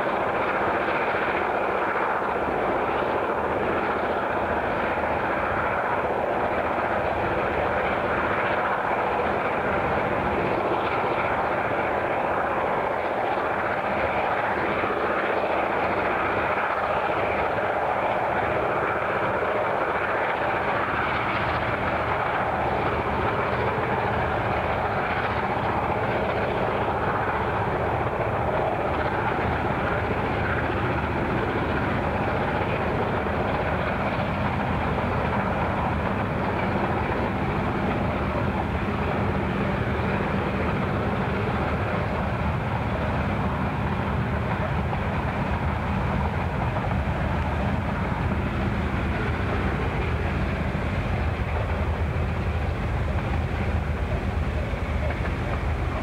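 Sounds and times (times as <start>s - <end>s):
diesel locomotive engine drone: 0.0s - 56.0s
train rumbling on track: 0.0s - 56.0s.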